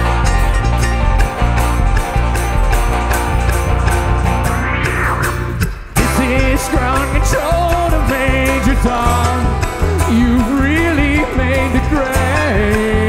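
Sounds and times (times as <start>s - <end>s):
bluegrass band playing: 0.0s - 4.8s, 6.0s - 13.0s.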